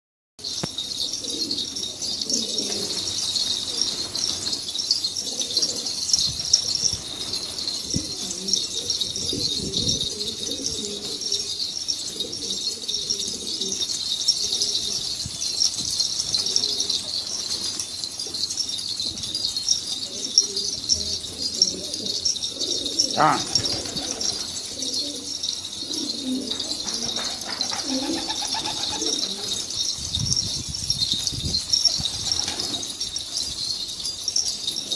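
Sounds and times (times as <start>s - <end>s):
steady high-pitched hiss: 0.4s - 34.9s
pigeons cooing: 0.6s - 15.3s, 16.0s - 17.8s, 18.9s - 30.1s, 31.6s - 33.7s.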